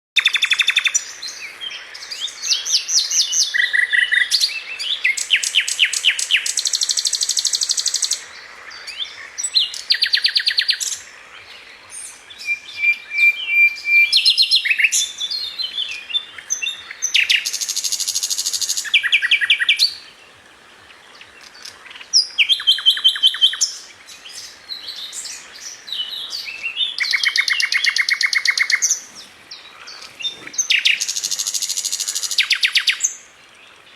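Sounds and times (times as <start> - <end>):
songbirds trilling: 0.2 - 33.9.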